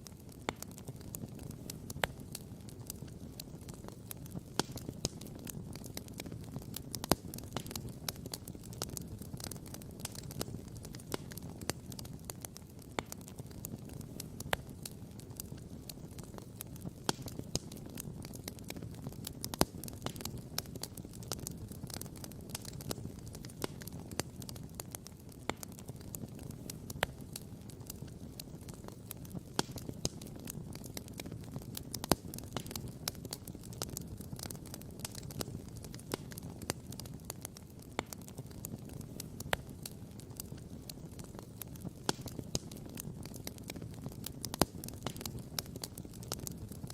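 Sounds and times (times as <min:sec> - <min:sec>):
campfire crackling and popping: 0:00.0 - 0:46.9
low rush of fire: 0:00.0 - 0:46.9.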